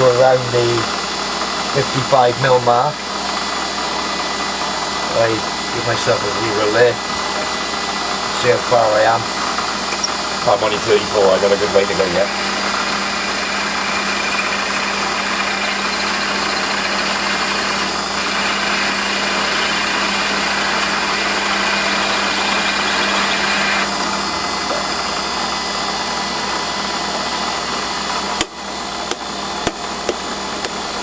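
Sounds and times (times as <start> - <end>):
lathe drilling hiss: 0.5 - 31.0
machine hum: 4.1 - 31.0.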